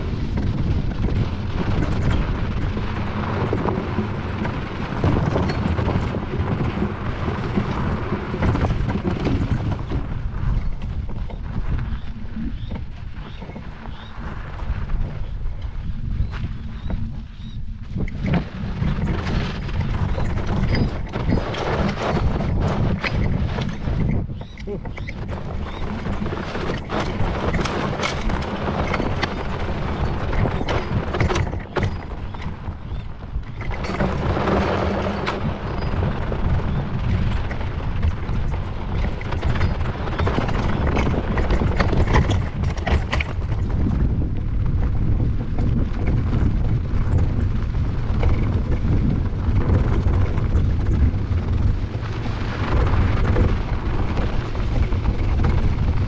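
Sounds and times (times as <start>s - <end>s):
scooter tyres rumbling over gravel: 0.0s - 56.0s
wind buffeting microphone: 0.0s - 56.0s.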